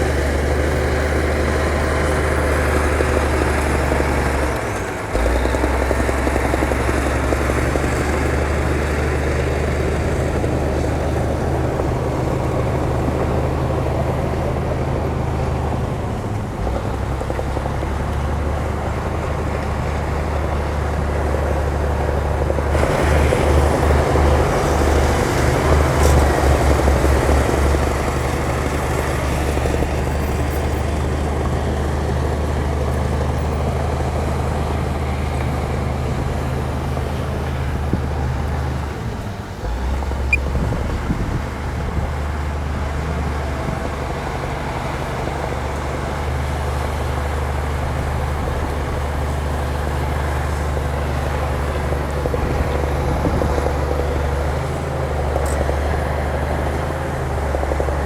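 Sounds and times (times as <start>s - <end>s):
heavy machine diesel engine: 0.0s - 58.0s.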